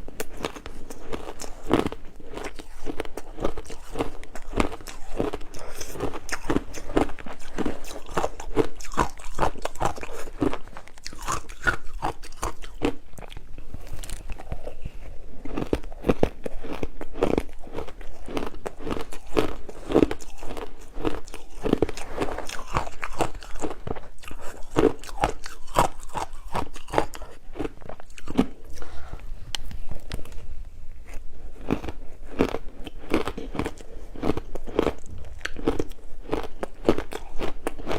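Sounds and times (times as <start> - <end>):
ice being bitten and chewed: 0.0 - 30.4, 31.0 - 37.9.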